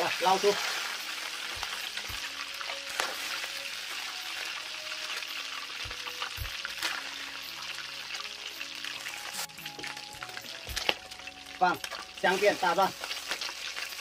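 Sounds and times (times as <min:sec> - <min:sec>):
hot oil sizzling in a wok: 0:00.0 - 0:14.0.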